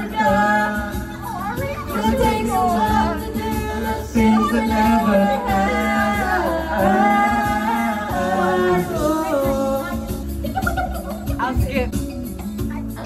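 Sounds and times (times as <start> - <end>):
backing track: 0.0 - 13.0
woman singing pop song: 0.0 - 13.0.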